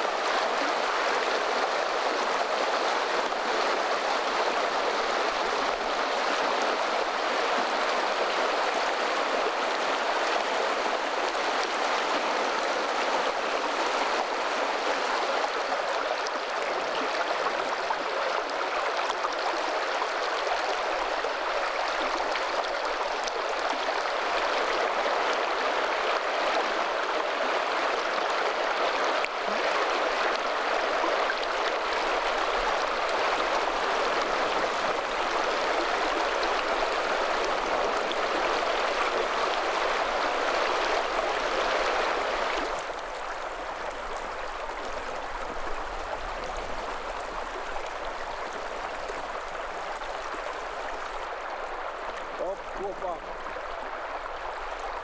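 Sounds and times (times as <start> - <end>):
stream running water: 0.0 - 55.0.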